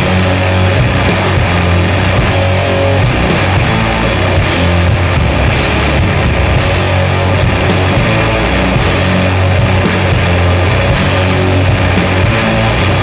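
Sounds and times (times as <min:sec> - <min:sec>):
distorted guitars and bass: 0:00.0 - 0:13.0.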